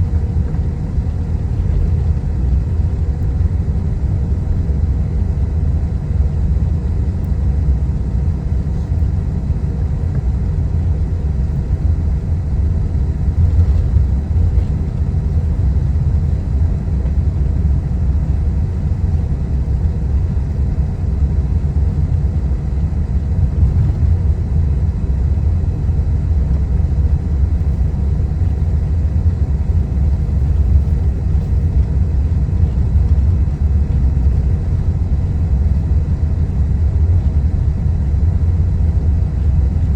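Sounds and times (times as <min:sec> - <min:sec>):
jet airliner taxiing rumble: 0:00.0 - 0:39.9.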